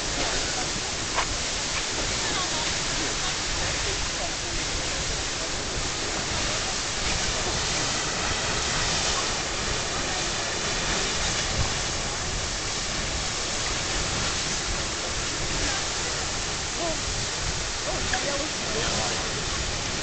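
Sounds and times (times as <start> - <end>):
geyser rushing water and steam: 0.0 - 20.0.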